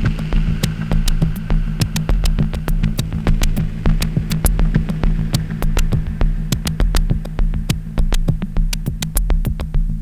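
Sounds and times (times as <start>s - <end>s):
deep bass tone: 0.0s - 10.0s
pulsing low kick drum: 0.0s - 10.0s.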